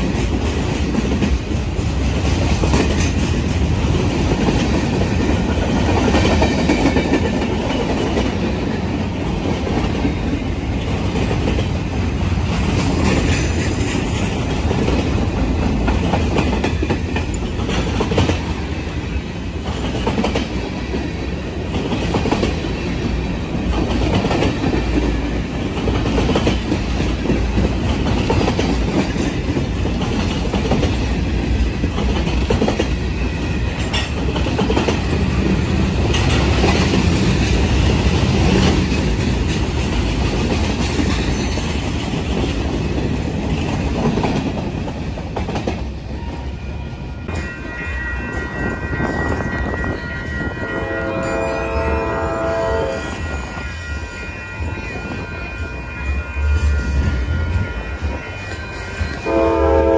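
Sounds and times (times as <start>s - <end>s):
freight train rumble: 0.0s - 59.9s.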